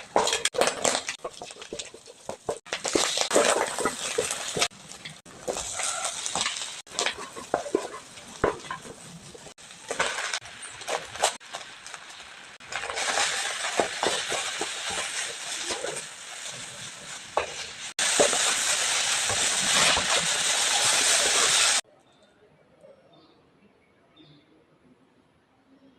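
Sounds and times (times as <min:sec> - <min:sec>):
noodles sizzling in a pan: 0:00.0 - 0:21.8.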